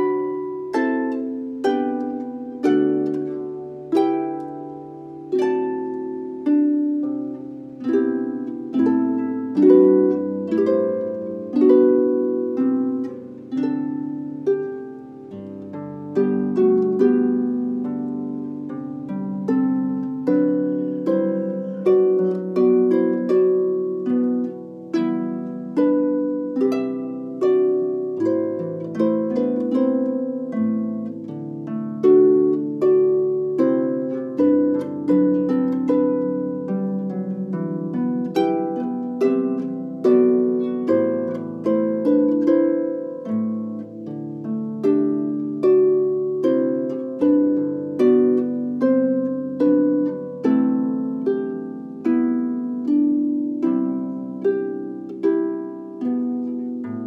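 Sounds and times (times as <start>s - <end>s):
harp plucked notes and chords: 0.0s - 57.0s.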